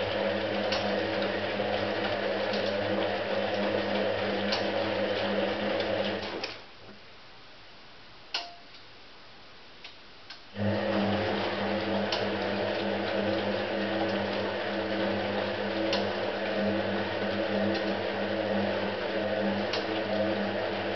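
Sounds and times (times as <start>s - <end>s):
washing machine drum humming: 0.0s - 6.4s, 10.5s - 20.9s.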